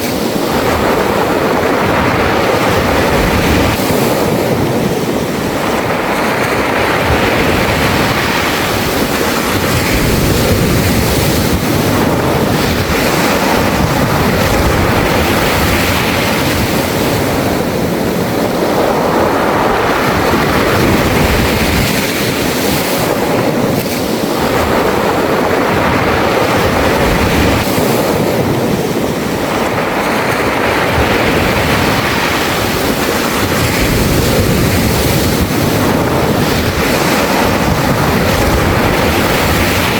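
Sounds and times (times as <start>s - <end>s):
waves rattling pebbles: 0.0s - 39.9s.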